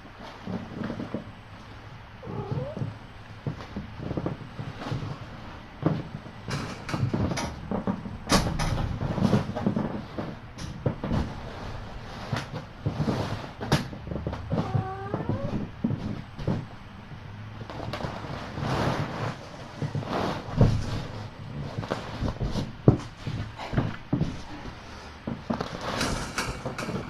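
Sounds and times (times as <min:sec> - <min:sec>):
rustling: 0:00.1 - 0:16.8, 0:17.6 - 0:27.0.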